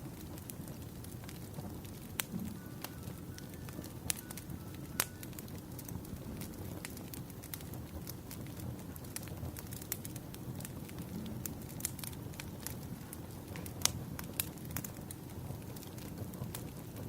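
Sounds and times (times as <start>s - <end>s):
burning wood pops and snaps: 0.0s - 17.0s
campfire crackling: 0.0s - 17.0s.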